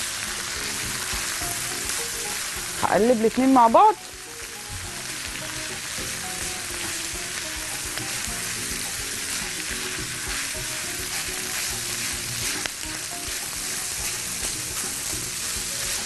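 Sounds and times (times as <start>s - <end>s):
sausage and onion sizzling: 0.0s - 16.0s
spatula stirring in a pan: 0.1s - 2.8s, 4.9s - 16.0s.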